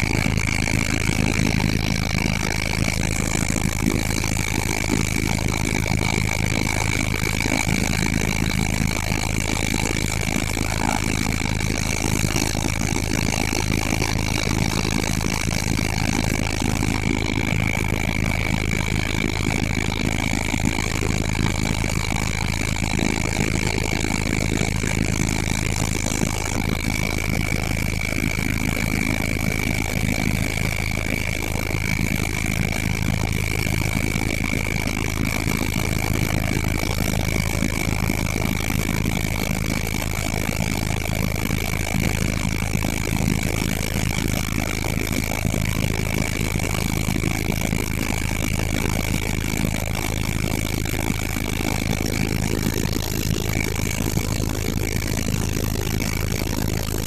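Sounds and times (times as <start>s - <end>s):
helicopter engine and rotor drone: 0.0s - 57.0s
high-pitched whine: 0.0s - 57.0s.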